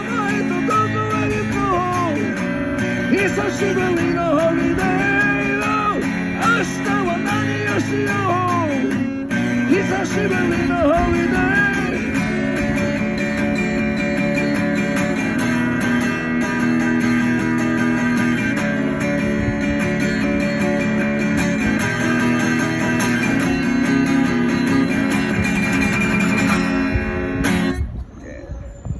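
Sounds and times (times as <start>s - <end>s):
guitar strumming: 0.0s - 28.0s.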